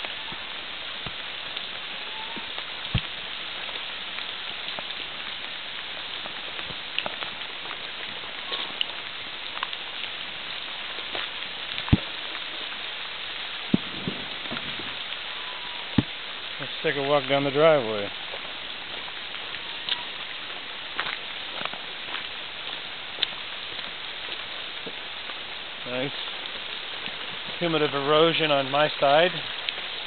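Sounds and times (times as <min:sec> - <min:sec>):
water hissing: 0:00.0 - 0:30.0.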